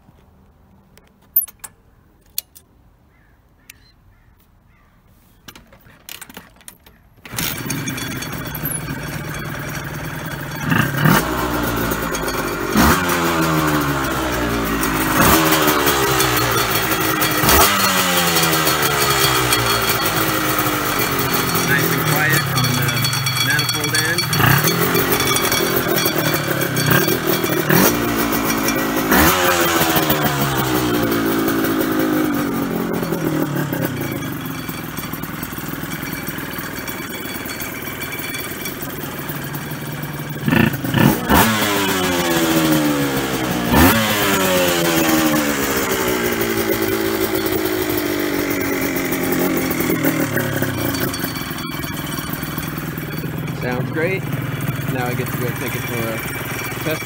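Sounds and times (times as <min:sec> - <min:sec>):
motorcycle engine revving and idling: 0:07.2 - 0:57.0.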